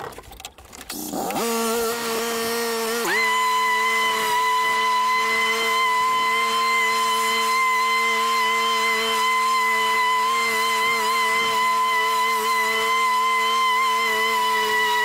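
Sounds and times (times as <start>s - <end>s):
riding lawn mower engine: 0.0s - 15.0s.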